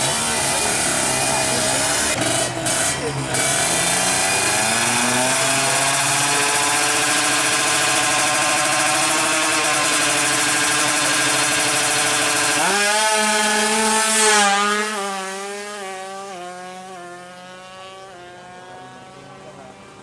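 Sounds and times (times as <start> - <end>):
two-stroke engine screaming: 0.0 - 20.0.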